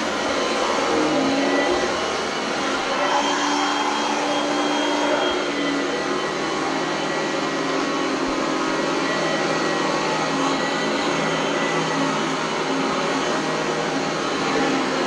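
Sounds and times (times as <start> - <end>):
upright vacuum cleaner running: 0.0 - 15.0.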